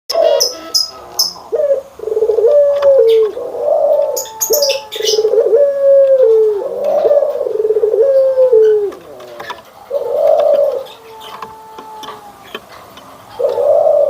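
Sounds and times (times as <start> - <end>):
dove cooing: 0.1 - 14.0.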